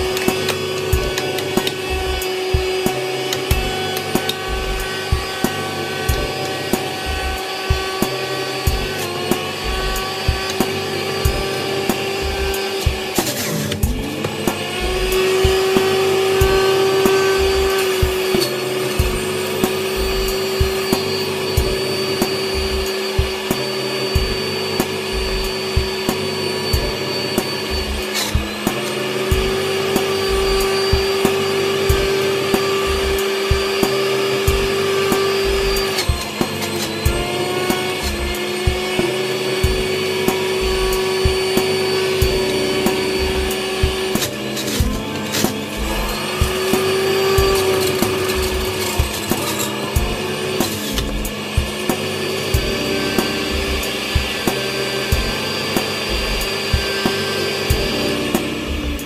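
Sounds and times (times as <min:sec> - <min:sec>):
juicer motor whine: 0:00.0 - 0:59.0.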